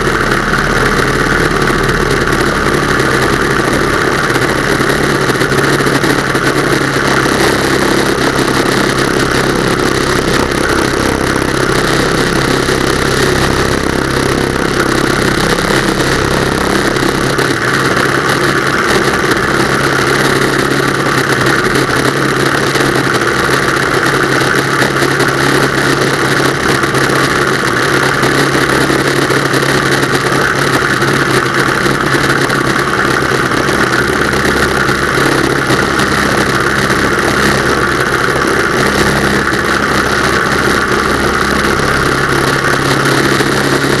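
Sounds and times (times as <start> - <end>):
aircraft engine and propeller: 0.0 - 44.0
heavy wind rush: 0.0 - 44.0.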